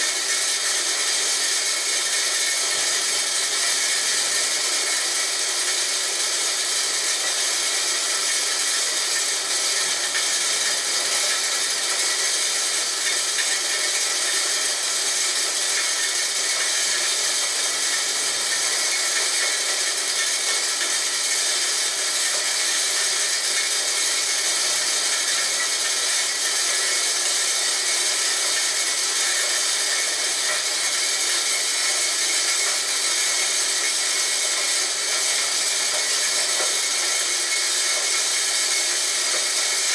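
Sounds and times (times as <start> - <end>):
corn grinder grating: 0.0 - 39.9.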